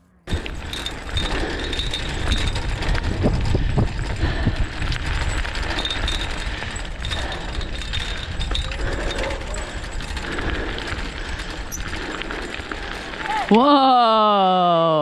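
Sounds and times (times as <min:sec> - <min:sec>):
cart wheels rumbling on dirt trail: 0:00.2 - 0:15.0.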